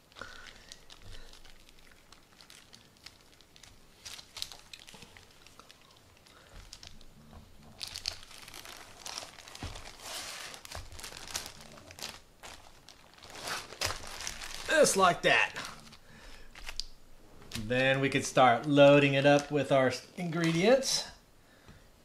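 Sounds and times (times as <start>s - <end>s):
plastic wrap crinkling: 0.0s - 21.0s.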